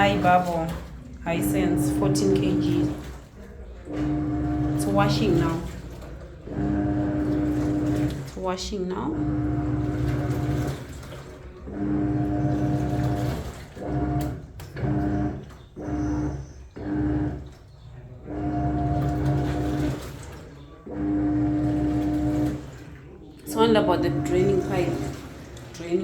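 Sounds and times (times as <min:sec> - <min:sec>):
washing machine motor humming: 0:00.0 - 0:26.0
water sloshing: 0:00.0 - 0:26.0.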